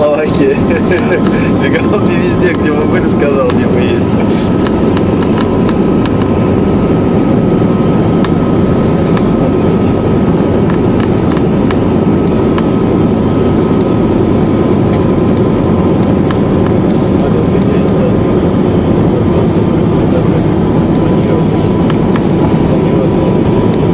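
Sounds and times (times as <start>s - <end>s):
faint steady whine: 0.0s - 23.9s
radial engines droning: 0.0s - 23.9s.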